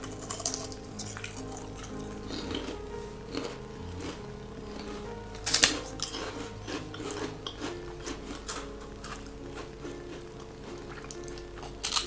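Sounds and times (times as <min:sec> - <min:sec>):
crunching and chewing: 0:00.0 - 0:12.0
soft background music: 0:00.0 - 0:12.0.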